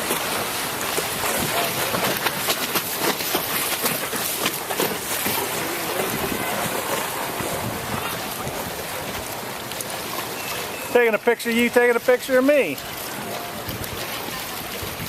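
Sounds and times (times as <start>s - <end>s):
water splashing against boat hull: 0.0s - 15.0s.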